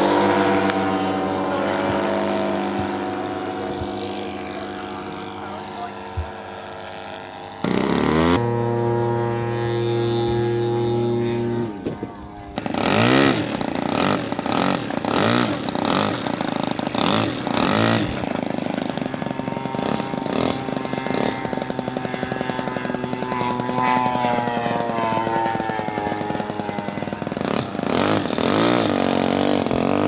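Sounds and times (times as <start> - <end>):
model aircraft engine droning: 0.0 - 30.0
model aircraft engine revving: 0.0 - 30.0.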